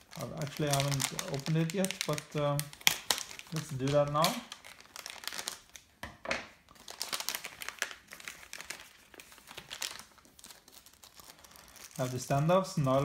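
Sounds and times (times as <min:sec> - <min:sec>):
plastic bag crinkling: 0:00.0 - 0:06.0, 0:06.6 - 0:13.0.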